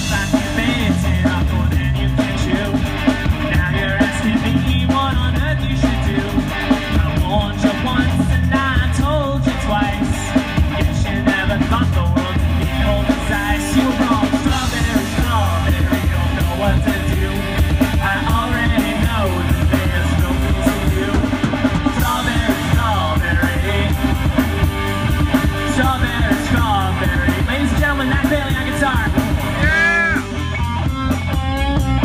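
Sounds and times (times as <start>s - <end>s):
person singing: 0.0s - 24.2s, 25.6s - 30.4s
live rock band playing: 0.0s - 32.0s.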